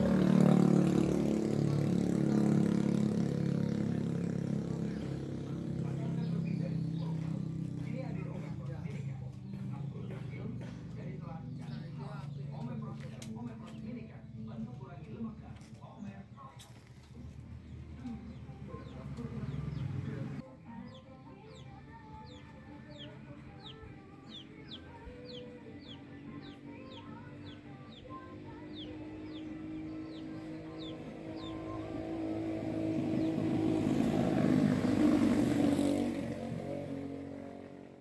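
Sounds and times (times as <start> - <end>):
motor vehicle passing: 0.0 - 20.5, 21.4 - 38.0
bird chirping: 4.6 - 36.2.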